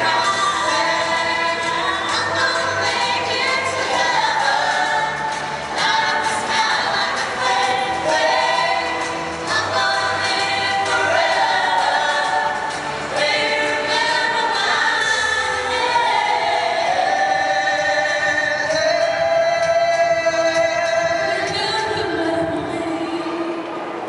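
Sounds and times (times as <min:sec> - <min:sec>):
group of singers singing: 0:00.0 - 0:23.9.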